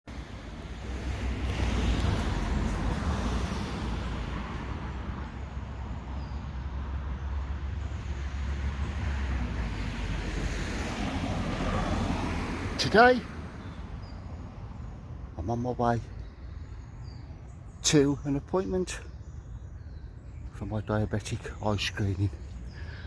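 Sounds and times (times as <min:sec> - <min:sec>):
road traffic rumbling past: 0:00.1 - 0:20.6.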